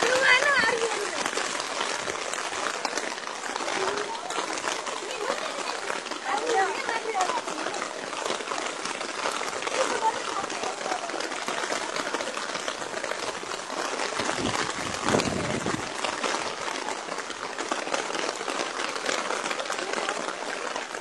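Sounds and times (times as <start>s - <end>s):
rain and rushing floodwater: 0.0s - 21.0s.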